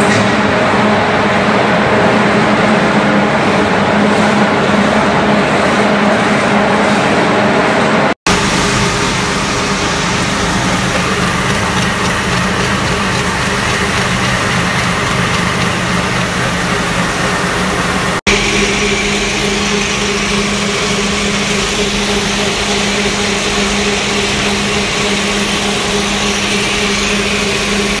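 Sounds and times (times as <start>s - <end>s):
granulator machinery running: 0.0s - 28.0s.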